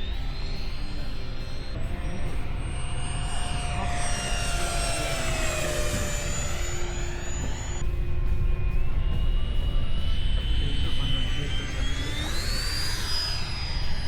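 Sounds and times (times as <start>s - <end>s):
electric ducted fan whine: 0.0s - 14.0s.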